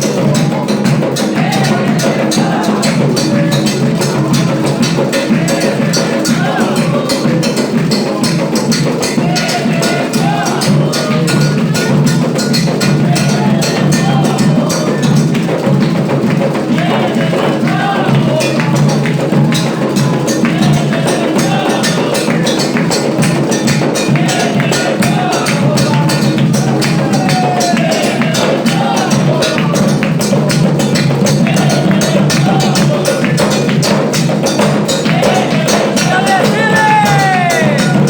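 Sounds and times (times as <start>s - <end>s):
barrel drums fast rhythm: 0.0s - 38.0s
clicking hand percussion: 0.0s - 38.0s
voices singing: 0.0s - 38.0s.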